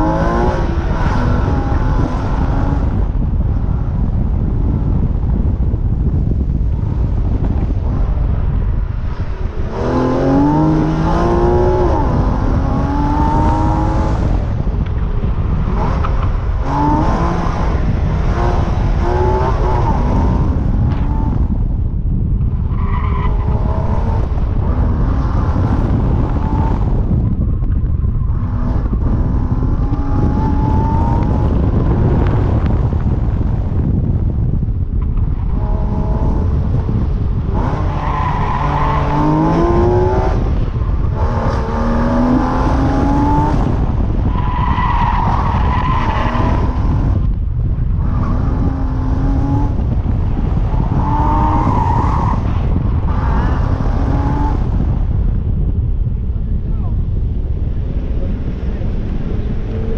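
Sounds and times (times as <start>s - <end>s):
car engine revving: 0.0s - 21.8s, 22.6s - 55.2s.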